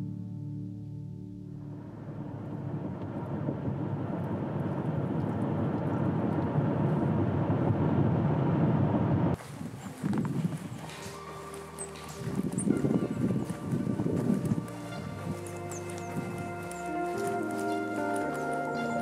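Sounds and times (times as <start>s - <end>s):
car road and wind noise: 1.6s - 17.1s.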